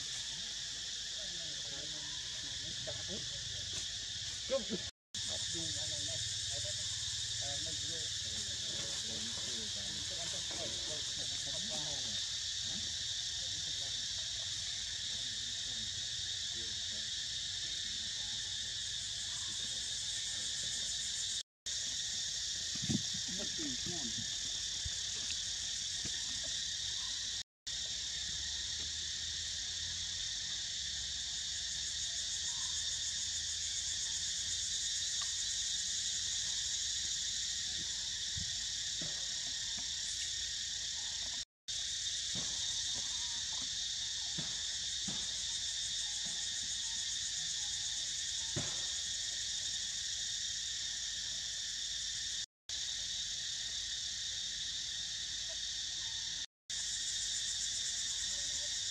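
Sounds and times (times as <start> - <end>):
forest insects buzzing: 0.0 - 58.9.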